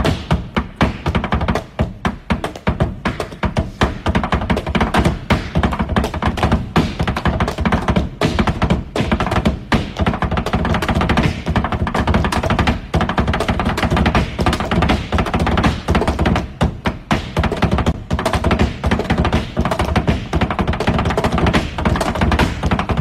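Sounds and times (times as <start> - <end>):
flamenco shoes stamping on hard floor: 0.0 - 23.0.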